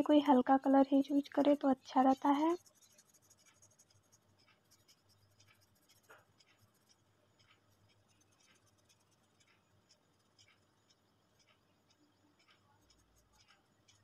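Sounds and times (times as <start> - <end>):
pencil scratching on paper: 1.0 - 14.0.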